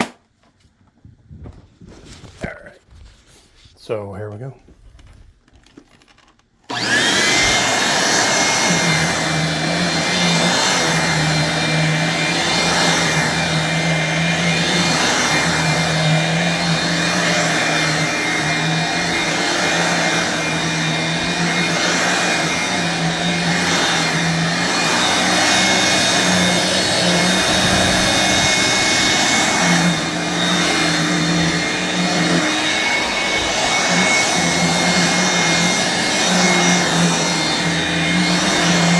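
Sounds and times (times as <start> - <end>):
hand vacuum motor whine: 5.7 - 38.9.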